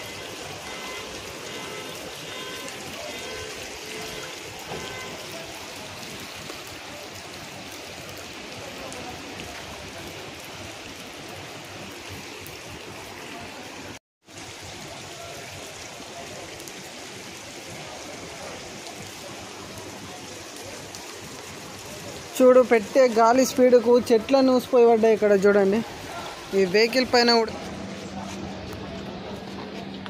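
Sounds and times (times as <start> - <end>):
rushing rainwater: 0.0 - 30.0.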